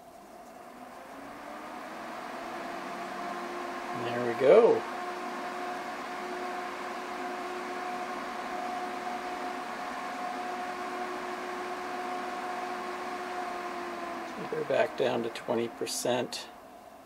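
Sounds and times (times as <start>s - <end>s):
roof vent fan running: 0.0s - 17.0s.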